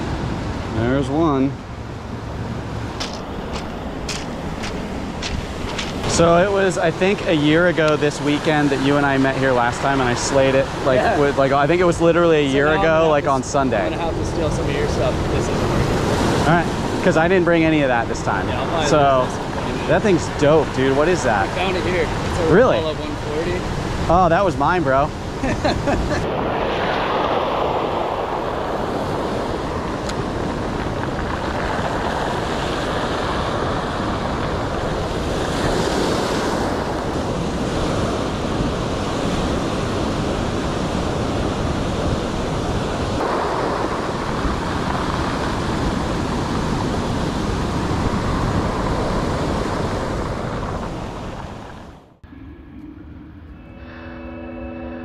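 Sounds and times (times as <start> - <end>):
wind on microphone: 1.7 - 53.8
surf breaking on cobble beach: 2.8 - 52.0.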